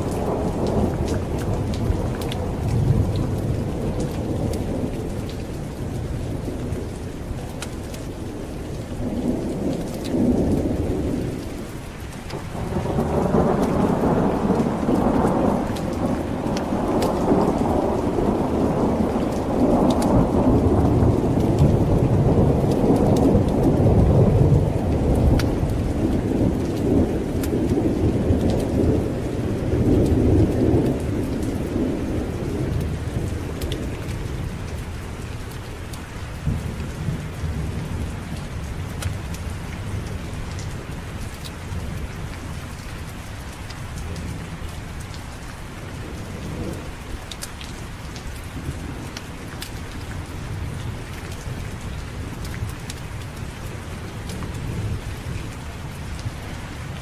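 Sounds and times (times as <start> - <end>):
steady rain falling: 0.0 - 57.0
thunder rumbling: 0.0 - 57.0.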